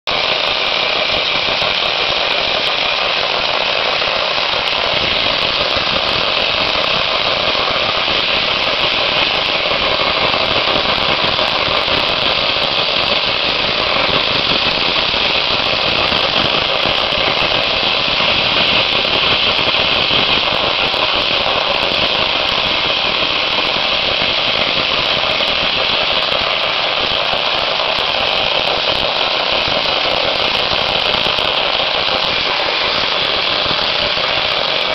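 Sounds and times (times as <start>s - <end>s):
dry ice blasting gun firing: 0.1s - 34.9s.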